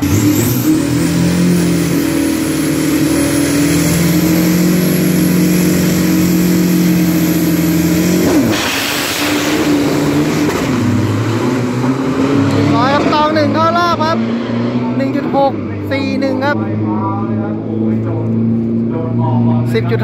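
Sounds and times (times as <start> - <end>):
noisy rush of trucks launching: 0.0 - 17.0
truck engines revving: 0.0 - 20.0.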